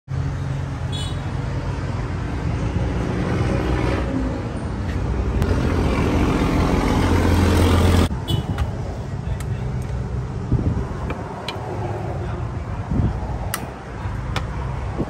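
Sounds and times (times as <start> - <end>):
vehicle engine rumbling: 0.1 - 15.0.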